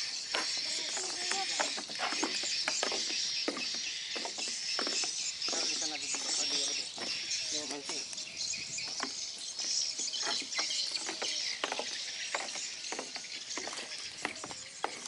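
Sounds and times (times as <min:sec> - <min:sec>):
high chirping chorus: 0:00.0 - 0:15.0
footsteps on wooden planks: 0:00.2 - 0:08.2, 0:08.8 - 0:15.0.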